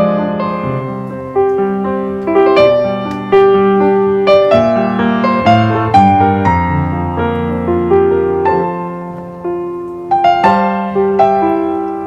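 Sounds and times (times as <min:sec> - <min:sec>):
gentle piano notes: 0:00.0 - 0:12.0.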